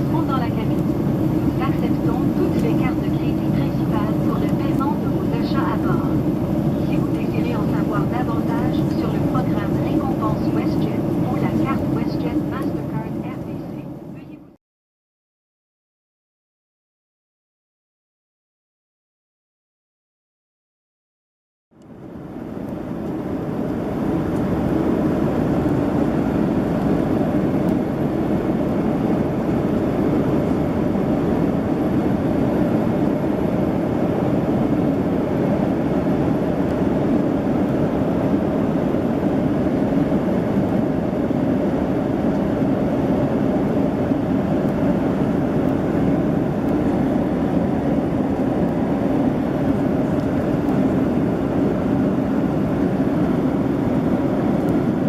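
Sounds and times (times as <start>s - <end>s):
airplane cabin engine and airflow rumble: 0.0s - 14.6s, 21.8s - 55.0s.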